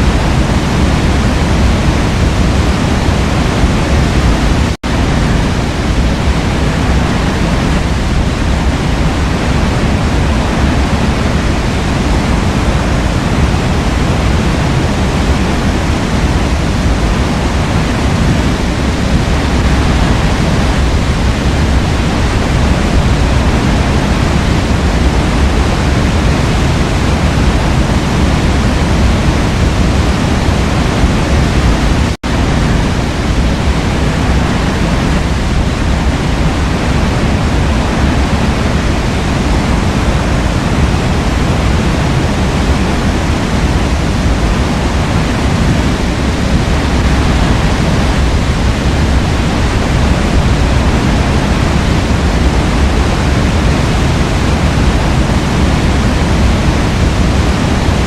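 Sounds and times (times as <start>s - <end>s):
waterfall roar: 0.0s - 58.0s.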